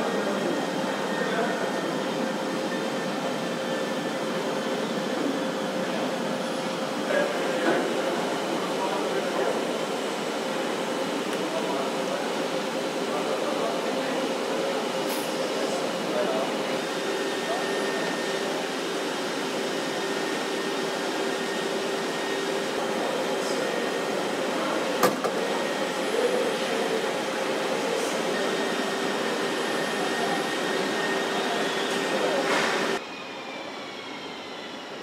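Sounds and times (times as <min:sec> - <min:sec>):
machinery hum and air rush: 0:00.0 - 0:35.0.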